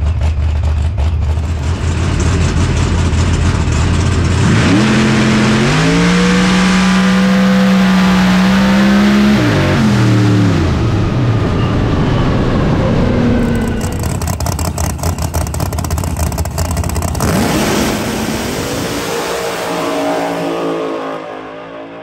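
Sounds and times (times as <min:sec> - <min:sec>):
drag car engine revving: 0:00.0 - 0:22.0.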